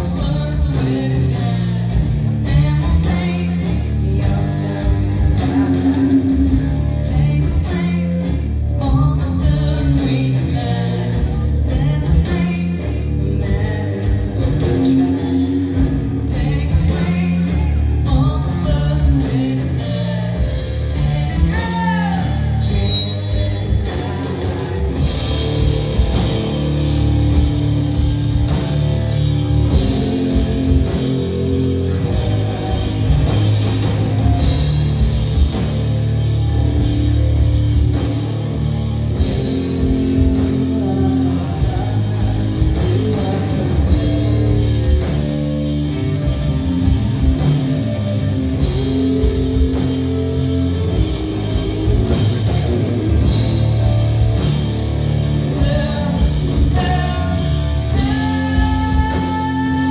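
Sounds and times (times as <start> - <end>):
person singing: 0.0 - 28.7, 29.4 - 53.4, 55.3 - 59.9
drums: 0.0 - 59.9
electric guitars: 0.0 - 59.9.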